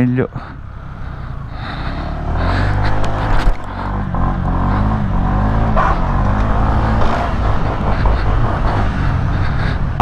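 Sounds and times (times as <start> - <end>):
scooter engine revving hard: 1.7 - 10.0.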